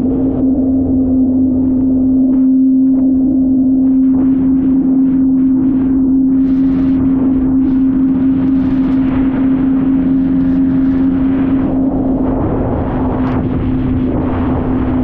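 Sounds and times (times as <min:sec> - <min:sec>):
jet ski engine drone: 0:00.0 - 0:15.0.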